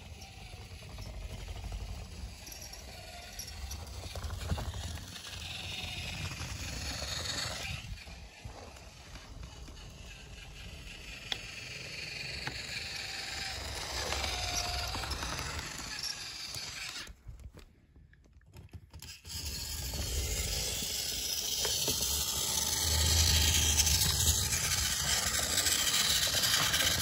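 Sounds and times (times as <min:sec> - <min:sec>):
wheels rattling over track joints: 0:00.0 - 0:17.1, 0:19.0 - 0:27.0
toy train motor whirring: 0:00.0 - 0:17.2, 0:18.9 - 0:27.0.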